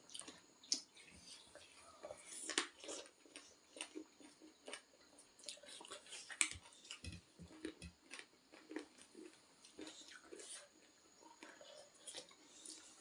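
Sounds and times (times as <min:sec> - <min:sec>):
wet chewing mouth clicks and smacks: 0:00.1 - 0:13.0.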